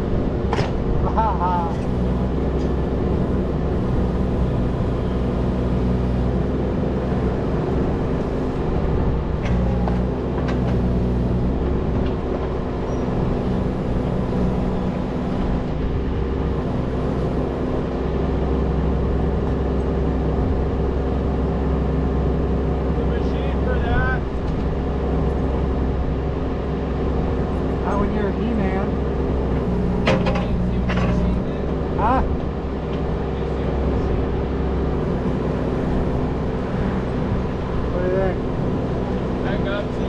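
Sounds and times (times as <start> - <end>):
machine engine running: 0.0 - 40.0.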